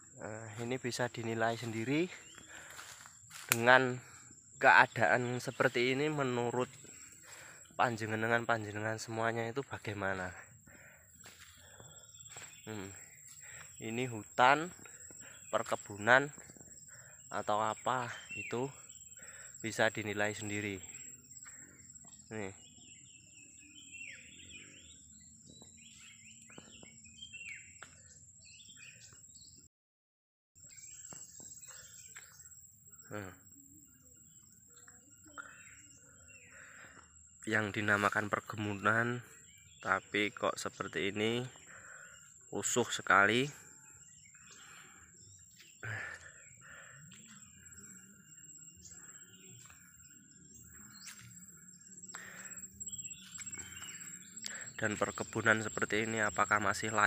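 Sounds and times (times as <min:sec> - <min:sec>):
birds chirping and whistling: 0:00.2 - 0:29.6, 0:30.6 - 0:33.6, 0:35.4 - 0:57.0.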